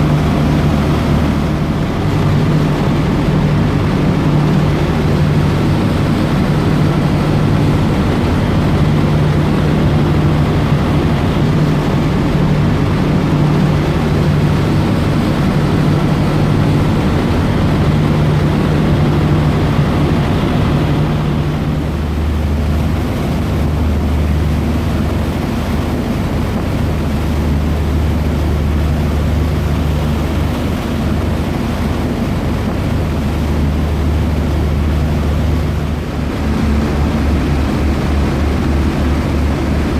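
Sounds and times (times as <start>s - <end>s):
ferry engines humming: 0.0s - 39.9s.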